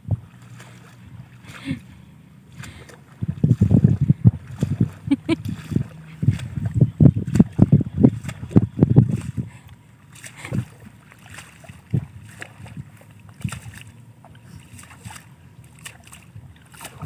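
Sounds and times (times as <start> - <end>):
feet sloshing in water and mud: 0.0 - 17.0.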